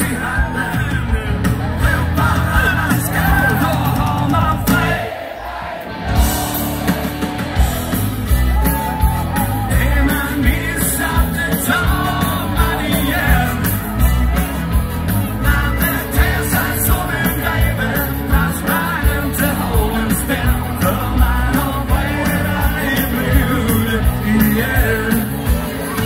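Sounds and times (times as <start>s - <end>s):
live band with singing: 0.0s - 26.0s.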